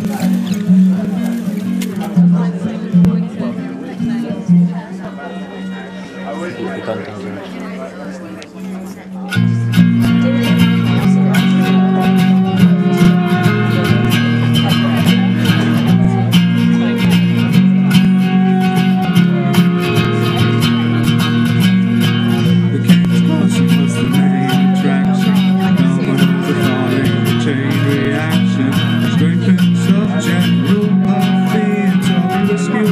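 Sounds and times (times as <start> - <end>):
band music with guitars and bass: 0.0 - 32.9.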